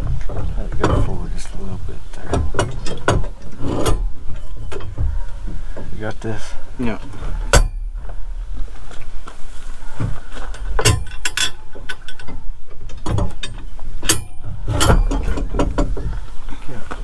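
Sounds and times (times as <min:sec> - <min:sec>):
metal parts clicking and clanking: 0:00.0 - 0:17.0.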